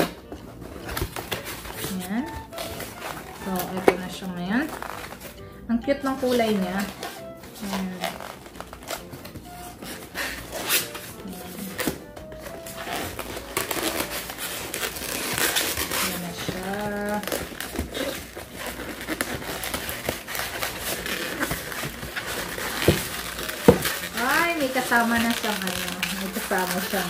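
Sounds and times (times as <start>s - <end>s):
plastic packaging crinkling: 0.0s - 5.4s, 6.0s - 27.0s
music playing: 0.0s - 27.0s.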